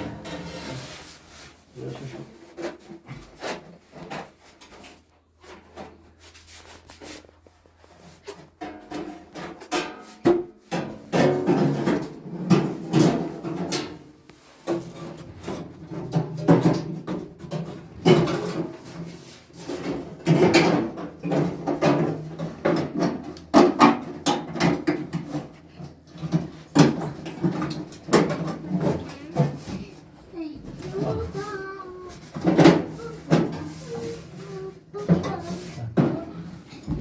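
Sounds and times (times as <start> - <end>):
knocking and scraping hard parts: 0.0 - 37.0.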